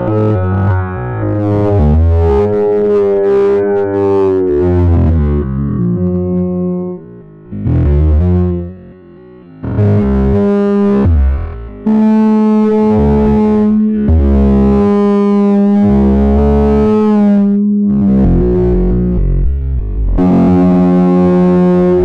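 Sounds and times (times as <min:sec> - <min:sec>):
distorted held notes: 0:00.0 - 0:22.0
low pulsing bass: 0:00.0 - 0:22.0.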